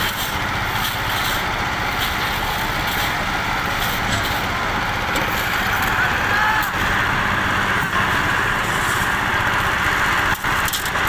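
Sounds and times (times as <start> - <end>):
concrete mixer engine rumbling: 0.0 - 11.0.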